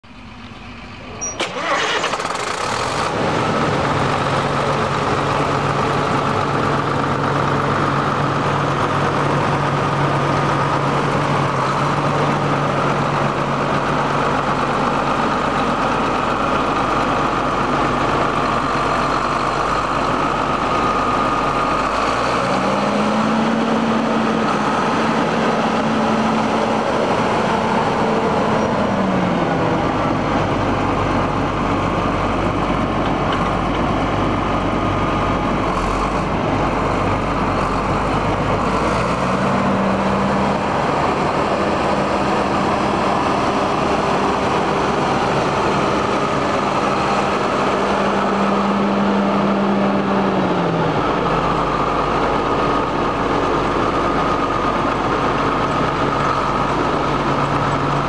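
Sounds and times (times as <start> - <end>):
diesel tractor engine: 0.0 - 58.0.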